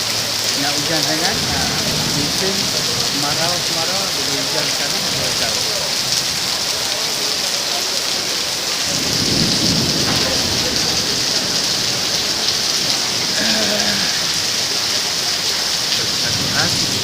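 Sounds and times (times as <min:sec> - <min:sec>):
heavy rain pouring: 0:00.0 - 0:17.0
thunder rumble: 0:00.5 - 0:07.5, 0:08.8 - 0:17.0.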